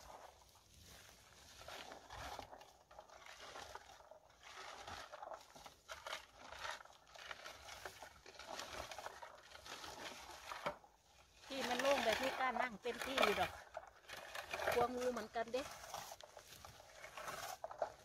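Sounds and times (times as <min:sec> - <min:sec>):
rustling of leaves and twigs: 0:00.0 - 0:18.0.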